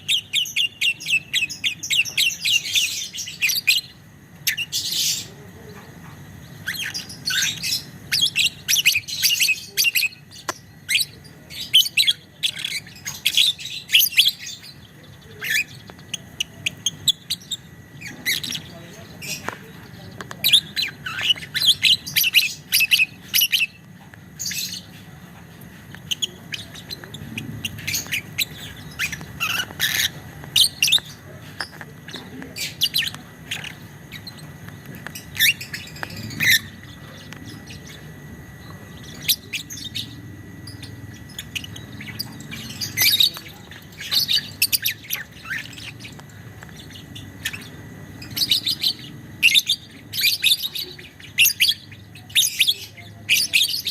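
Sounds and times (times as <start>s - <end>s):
lovebird chattering high chirps: 0.0s - 5.3s, 6.5s - 19.8s, 20.4s - 23.8s, 26.0s - 53.9s.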